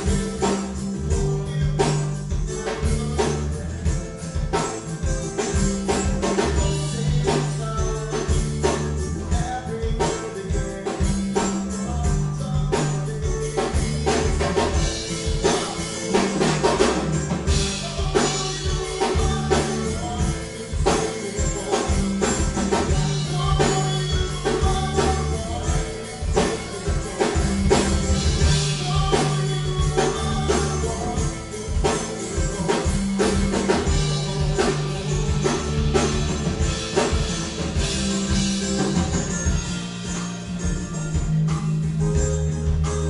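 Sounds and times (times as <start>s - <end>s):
lead vocal singing: 0.0s - 38.4s
drum kit steady beat: 0.0s - 43.0s
electric guitars: 0.0s - 43.0s.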